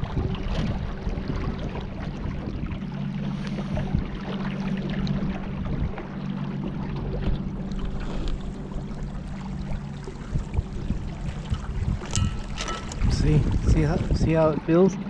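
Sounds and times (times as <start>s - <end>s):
wind on microphone: 0.0s - 6.2s, 7.0s - 15.0s
motorboat engine hum: 0.0s - 15.0s
water rushing and splashing: 0.0s - 15.0s.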